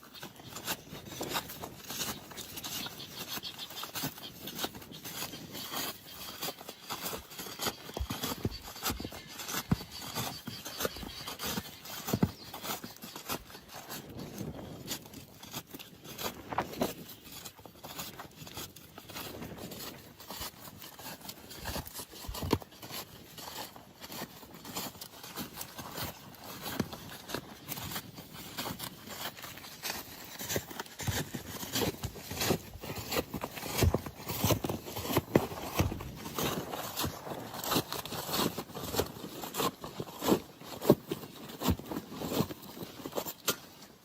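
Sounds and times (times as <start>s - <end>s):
roofing work scraping and crunching: 0.0s - 44.0s.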